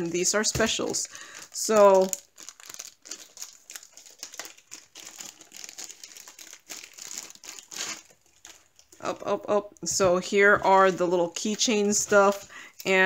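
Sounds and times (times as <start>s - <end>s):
plastic bags crinkling: 0.0s - 9.4s, 10.1s - 13.0s.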